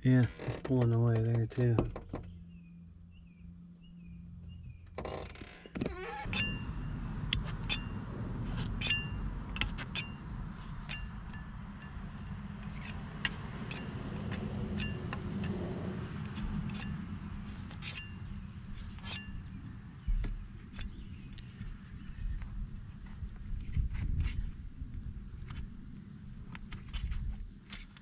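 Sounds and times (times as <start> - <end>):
steady low rumble: 0.0 - 5.0, 6.2 - 28.0.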